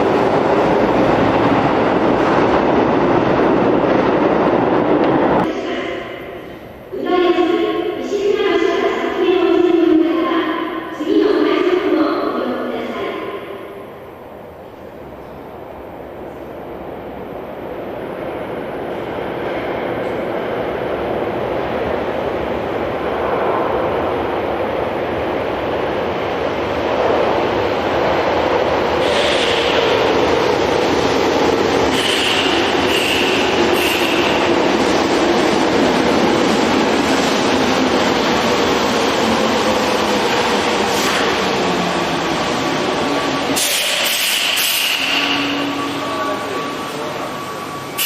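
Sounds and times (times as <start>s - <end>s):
subway train running: 0.0s - 48.0s.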